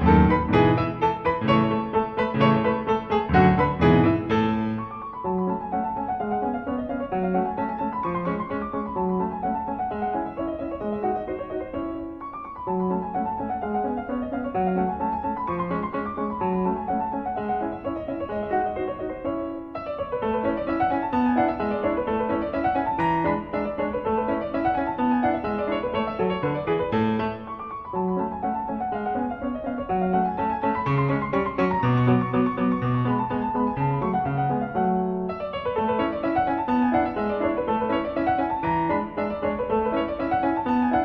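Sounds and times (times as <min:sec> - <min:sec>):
solo piano music: 0:00.0 - 0:41.0.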